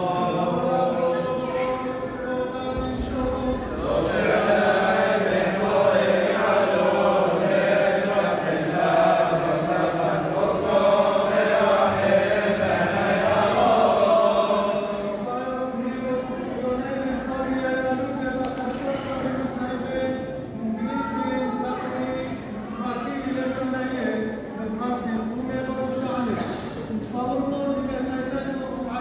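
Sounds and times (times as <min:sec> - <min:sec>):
male choir chanting a hymn: 0:00.0 - 0:29.0.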